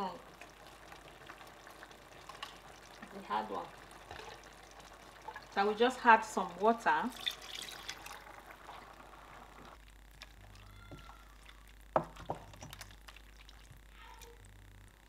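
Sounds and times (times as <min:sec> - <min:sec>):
water pouring into pot: 0:00.0 - 0:13.8
wooden spoon stirring soup: 0:00.2 - 0:06.5, 0:07.1 - 0:14.3.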